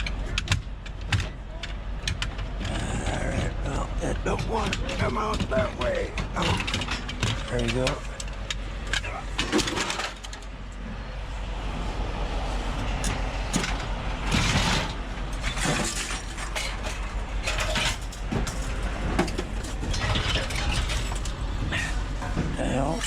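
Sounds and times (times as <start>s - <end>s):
low engine rumble: 0.0s - 23.0s
scrap metal clanking and scraping: 2.2s - 10.9s, 12.5s - 23.0s.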